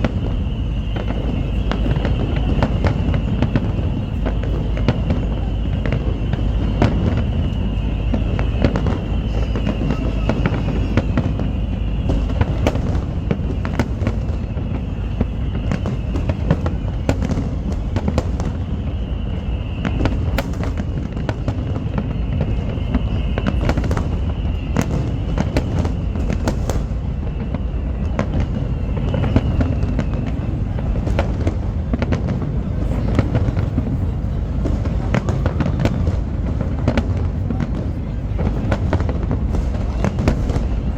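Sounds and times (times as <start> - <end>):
fireworks booms and cracks: 0.0 - 40.9.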